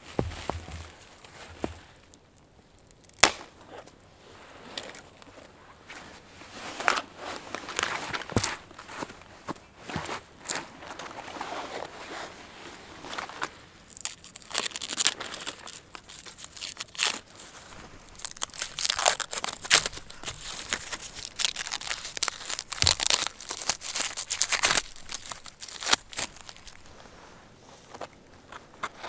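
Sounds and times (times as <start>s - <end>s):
crinkling and crunching handling noise: 0.0s - 29.0s.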